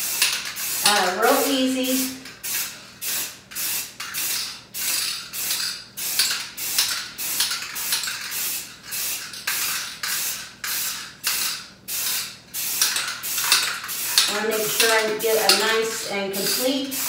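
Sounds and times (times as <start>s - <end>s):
aerosol spray can hissing: 0.0s - 17.0s.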